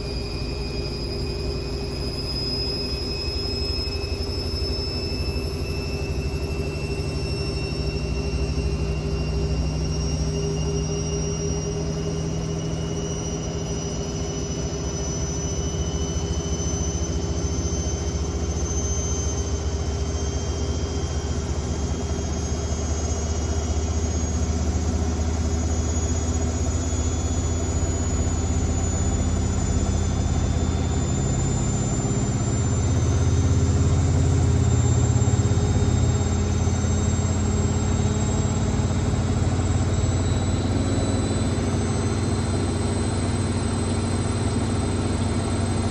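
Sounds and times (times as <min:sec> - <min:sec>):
high motor whine: 0:00.0 - 0:45.9.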